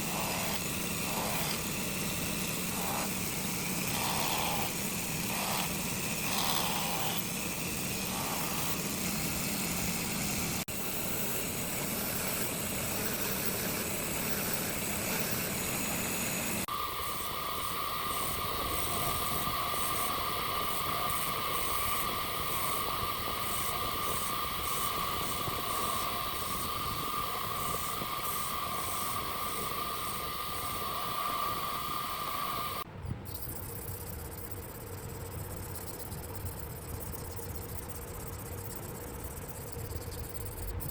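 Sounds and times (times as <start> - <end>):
electric grinder on steel: 0.0 - 32.8.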